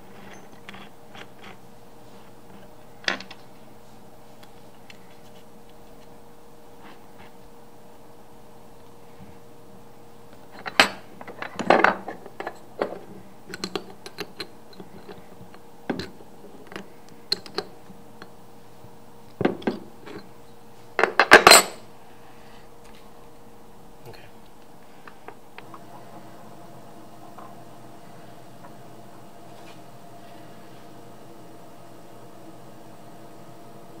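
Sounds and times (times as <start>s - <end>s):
faint constant tones: 0.0s - 34.0s
machine shop hum and hiss: 0.0s - 34.0s.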